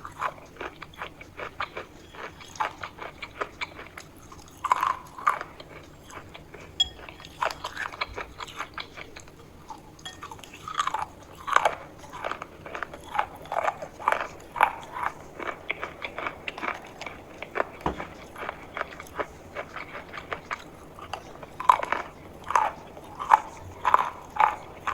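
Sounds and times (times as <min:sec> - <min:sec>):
crunchy chewing: 0:00.0 - 0:24.9.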